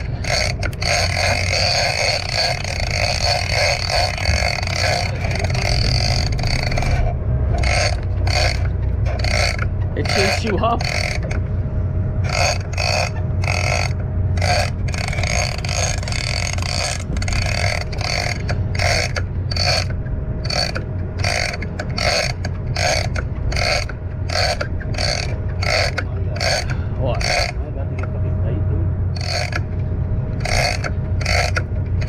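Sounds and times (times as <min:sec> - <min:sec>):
fishing reel being cranked: 0:00.0 - 0:11.4, 0:12.2 - 0:27.6, 0:29.2 - 0:29.7, 0:30.4 - 0:32.0
steady low hum: 0:00.0 - 0:32.0.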